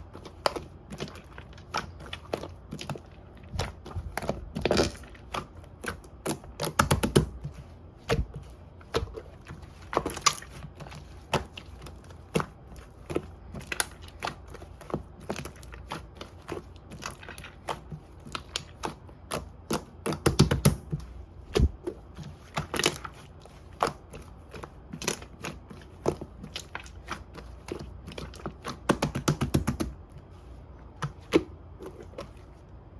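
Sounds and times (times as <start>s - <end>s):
slime squished by hand: 0.0s - 30.1s.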